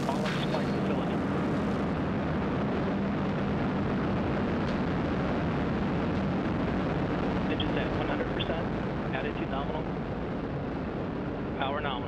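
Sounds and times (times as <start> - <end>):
rocket engines roaring: 0.0 - 12.0.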